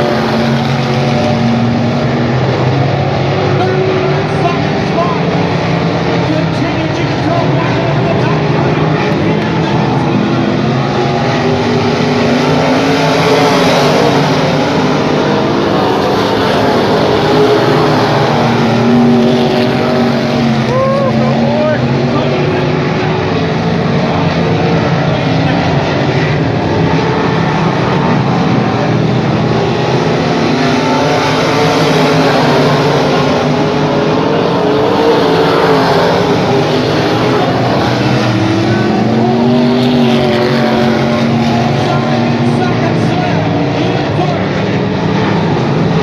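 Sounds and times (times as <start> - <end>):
race car engine running hard: 0.0 - 46.0.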